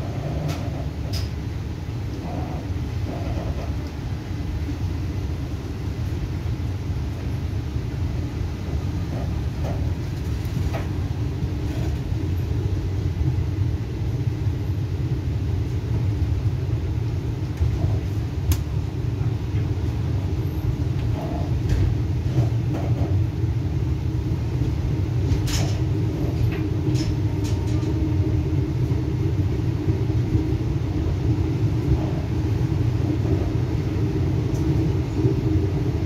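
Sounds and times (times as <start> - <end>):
train coach rumbling on rails: 0.0 - 36.0.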